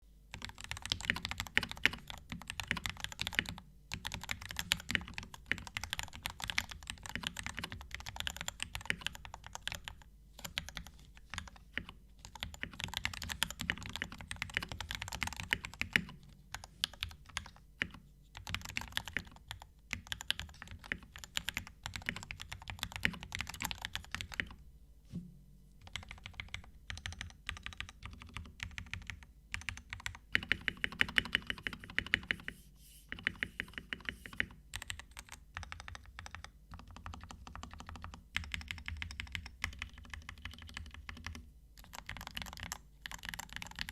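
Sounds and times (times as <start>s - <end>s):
typing on mechanical keyboard: 0.3s - 24.6s, 25.8s - 32.4s, 33.1s - 43.9s.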